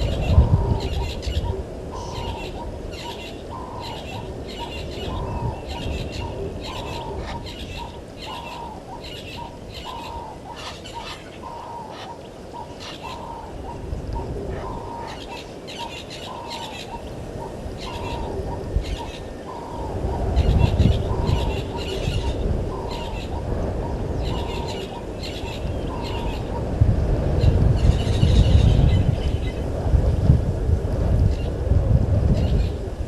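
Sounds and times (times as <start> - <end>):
wild birds calling: 0.0 - 29.8
steady low rumble: 0.0 - 33.0.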